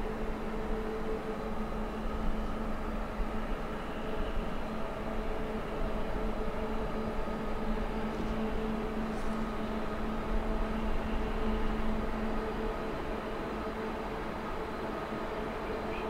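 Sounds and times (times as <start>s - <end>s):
diesel locomotive engines droning: 0.0s - 16.0s.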